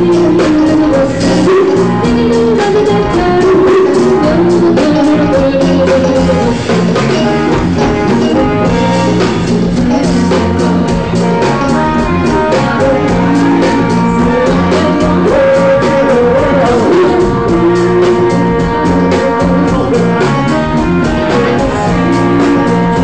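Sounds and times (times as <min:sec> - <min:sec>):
drum kit beat: 0:00.0 - 0:23.0
guitar: 0:00.0 - 0:23.0
live rock band playing: 0:00.0 - 0:23.0
person singing: 0:00.0 - 0:23.0.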